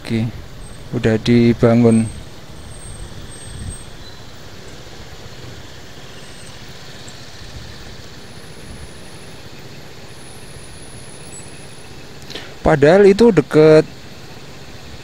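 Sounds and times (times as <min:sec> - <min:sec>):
cars and motorcycles idling: 0:00.0 - 0:15.0.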